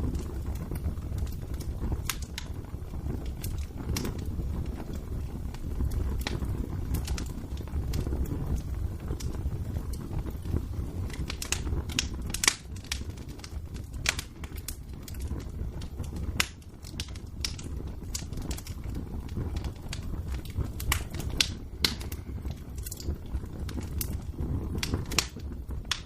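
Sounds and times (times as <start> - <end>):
wood fire crackling in fireplace: 0.0 - 26.0.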